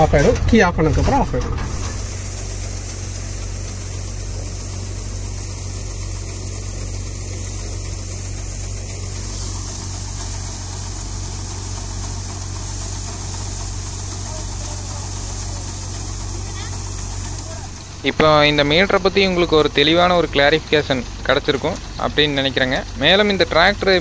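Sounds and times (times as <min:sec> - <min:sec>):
threshing machine running: 0:00.0 - 0:24.0
tractor engine: 0:00.0 - 0:24.0.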